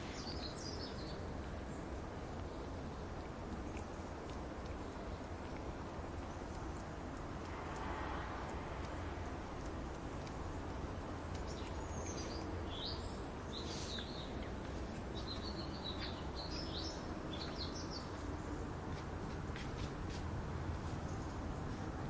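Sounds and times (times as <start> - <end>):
background rumble and hiss: 0.0 - 22.0
small birds chirping: 0.0 - 22.0.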